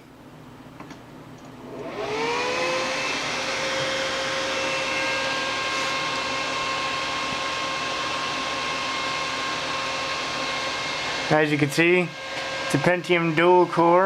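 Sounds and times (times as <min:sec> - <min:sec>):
computer cooling fans whining: 0:00.0 - 0:14.0.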